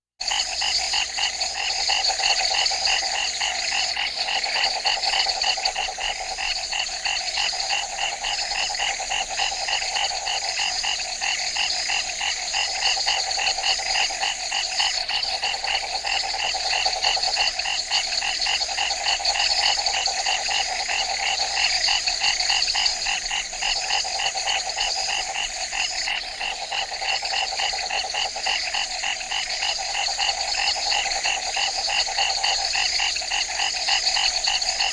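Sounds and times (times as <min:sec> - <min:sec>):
chorus of frogs: 0:00.2 - 0:34.9.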